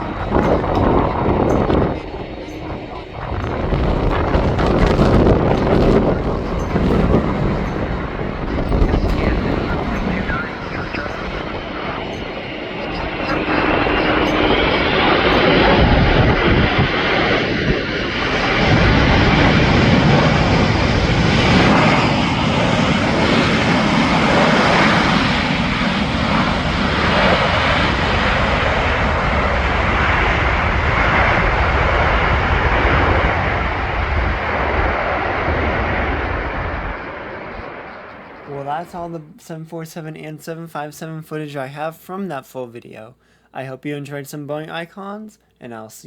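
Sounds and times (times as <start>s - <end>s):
jet engines at high power: 0.0s - 39.2s.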